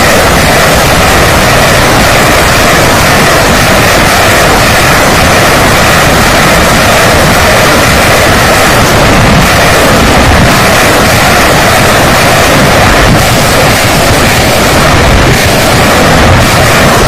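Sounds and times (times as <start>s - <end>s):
rockets launching: 0.0s - 17.0s.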